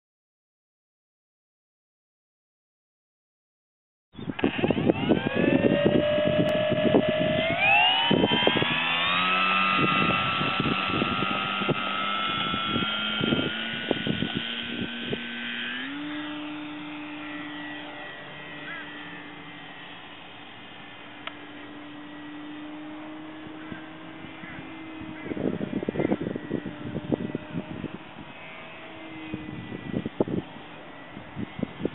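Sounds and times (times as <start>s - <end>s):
electric motor and propeller whining: 4.2s - 31.9s.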